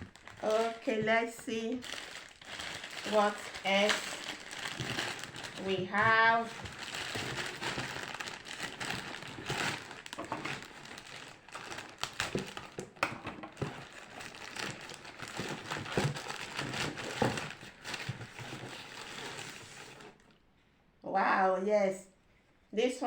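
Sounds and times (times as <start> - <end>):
packaging crinkling: 0.0 - 20.3.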